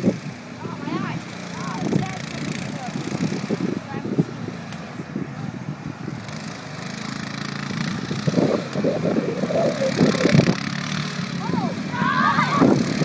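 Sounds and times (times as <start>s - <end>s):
quad bike engine revving: 0.0s - 4.8s, 5.9s - 13.0s.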